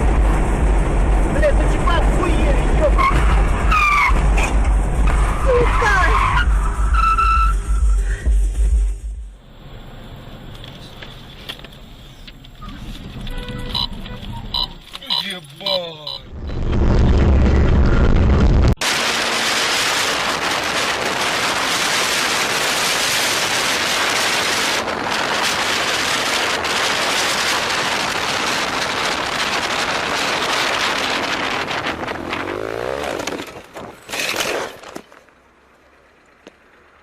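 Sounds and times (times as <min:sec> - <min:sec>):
road and wind noise: 0:00.0 - 0:37.0
vehicle engine: 0:00.0 - 0:37.0.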